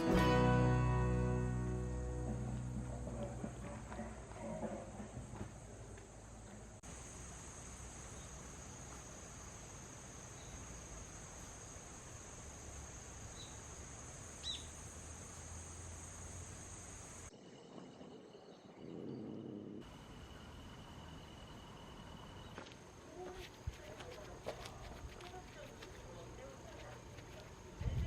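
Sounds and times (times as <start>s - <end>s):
insects chirring: 3.7s - 28.0s.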